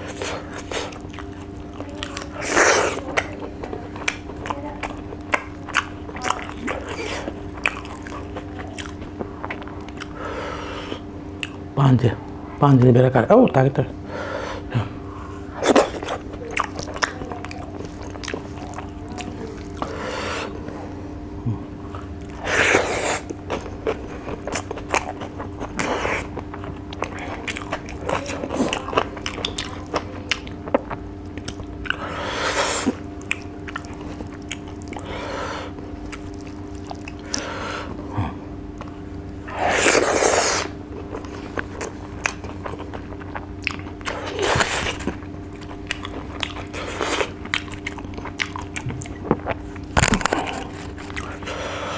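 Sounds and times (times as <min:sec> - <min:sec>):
chewing and crunching: 0:00.0 - 0:11.7, 0:15.3 - 0:21.2, 0:21.8 - 0:51.9.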